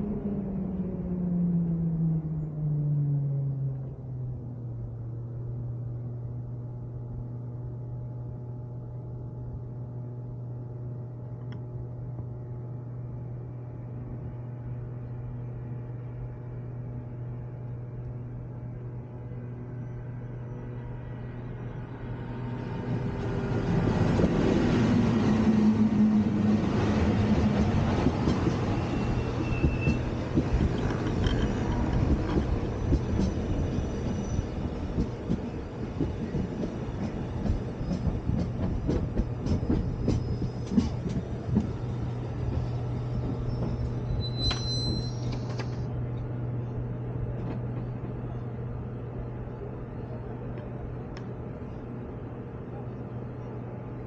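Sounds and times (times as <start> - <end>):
train running: 4.3 - 54.0.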